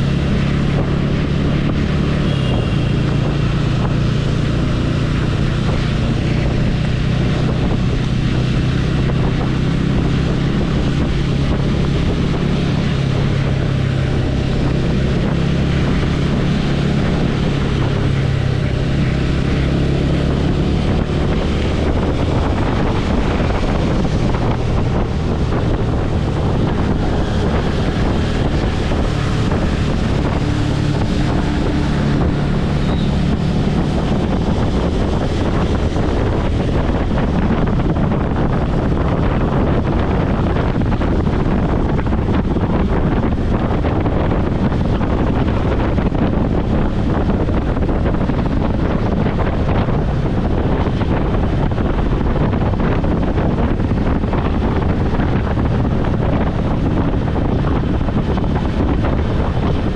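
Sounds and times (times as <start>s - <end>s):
motorcycle engine drone: 0.0s - 59.9s
wind buffeting microphone: 0.0s - 59.9s.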